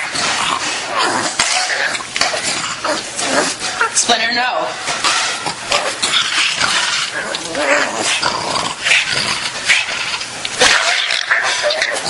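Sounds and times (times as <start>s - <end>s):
dog growling: 0.0s - 4.0s, 5.0s - 12.0s.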